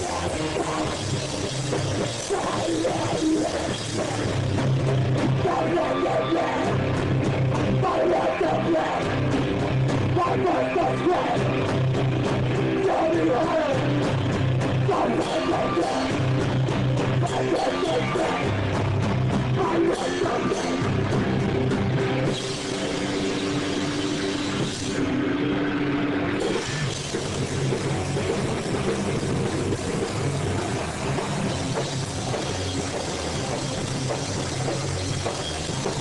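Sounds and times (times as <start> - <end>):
live rock band playing: 0.0 - 36.0
low bass riff: 0.0 - 36.0.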